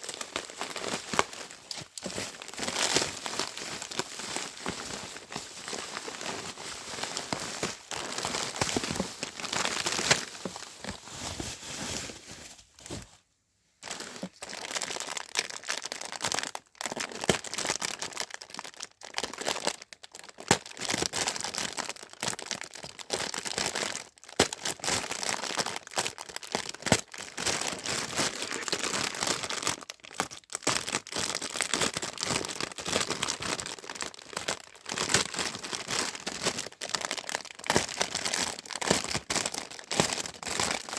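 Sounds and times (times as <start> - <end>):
plastic packaging crinkling: 0.0 - 13.2, 13.8 - 40.9.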